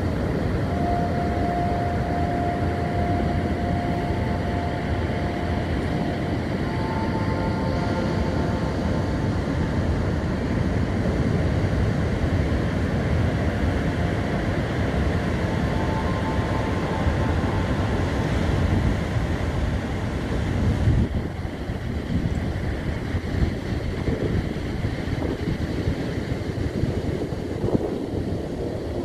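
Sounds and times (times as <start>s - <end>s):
ocean waves breaking: 0.0s - 29.0s
wind buffeting microphone: 0.0s - 29.0s.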